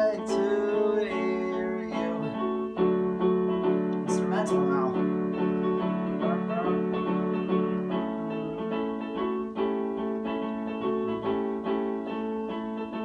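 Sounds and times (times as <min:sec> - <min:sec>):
electronic keyboard playing: 0:00.0 - 0:13.0.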